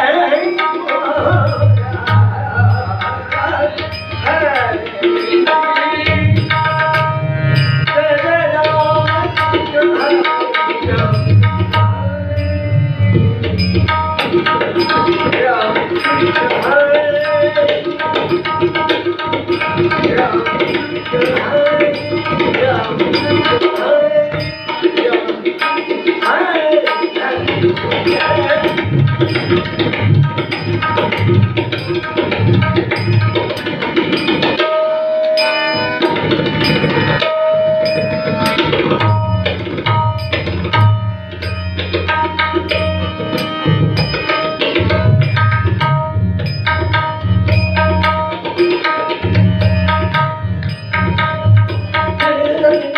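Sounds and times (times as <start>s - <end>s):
drumming in steady rhythm: 0.0s - 52.9s
held melodic notes: 0.0s - 52.9s.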